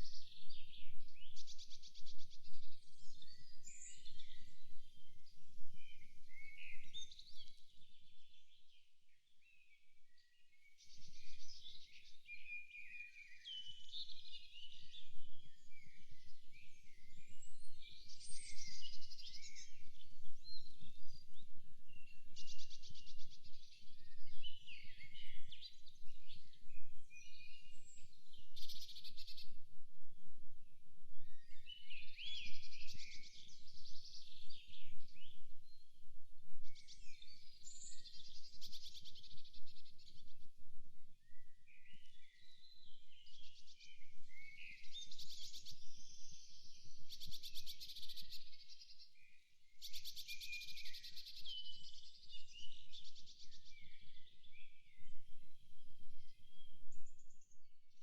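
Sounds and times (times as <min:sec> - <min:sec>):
songbirds singing: 0:00.0 - 0:40.6, 0:41.2 - 0:58.0.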